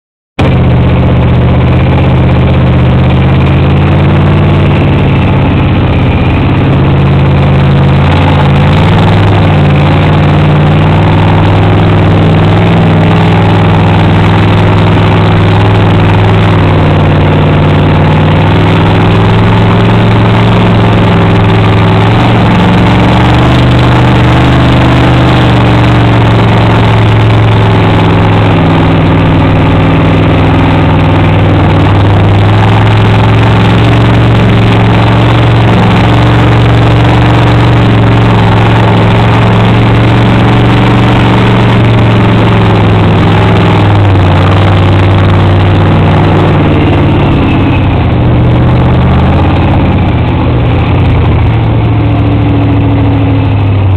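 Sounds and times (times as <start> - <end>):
loud engine running: 0.0 - 53.9.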